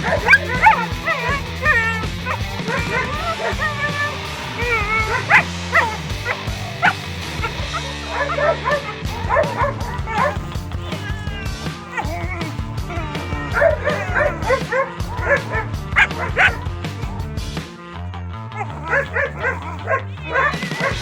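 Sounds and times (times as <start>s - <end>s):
dog yipping and yelping: 0.0s - 16.7s, 18.6s - 21.0s
background music: 0.0s - 21.0s.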